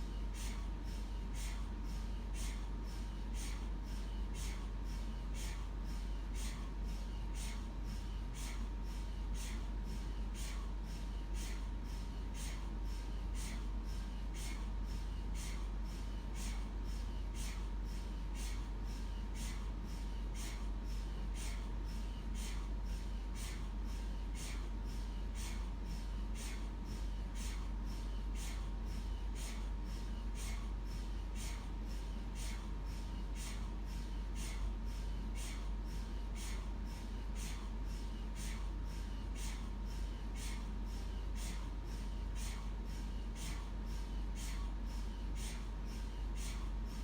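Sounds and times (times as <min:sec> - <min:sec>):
mri gradient coils knocking: 0:00.0 - 0:47.0
thin steady tone: 0:00.0 - 0:47.0.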